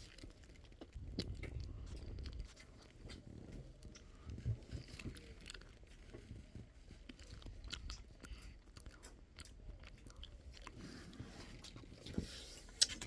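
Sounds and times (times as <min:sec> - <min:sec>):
chewing and biting ice cream: 0:00.0 - 0:13.0.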